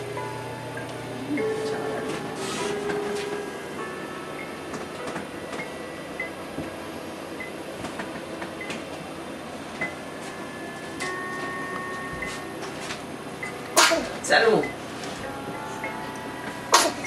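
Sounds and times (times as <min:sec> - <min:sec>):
crib mobile playing electronic notes: 0:00.0 - 0:17.0.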